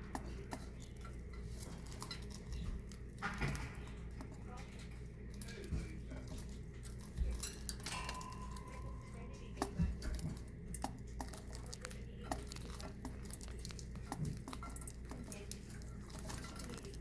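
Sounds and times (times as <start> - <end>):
small clicks and taps: 0.0 - 17.0.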